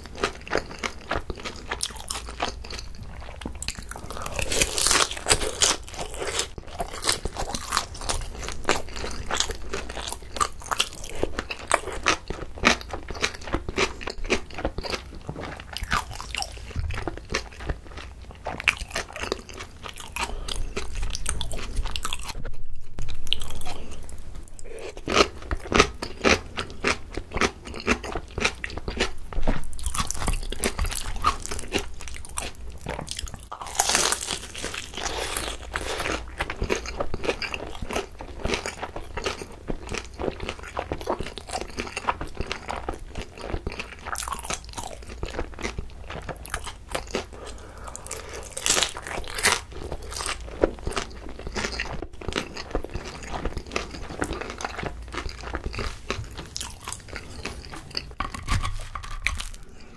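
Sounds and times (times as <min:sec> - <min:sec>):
crisp biting and chewing: 0:00.0 - 0:59.9.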